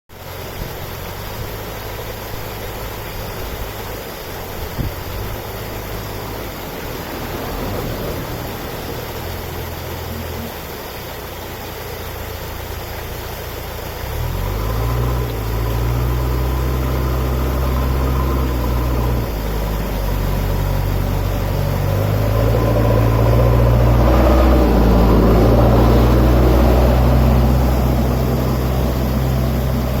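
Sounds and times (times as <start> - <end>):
waterfall rushing: 0.2 - 30.0.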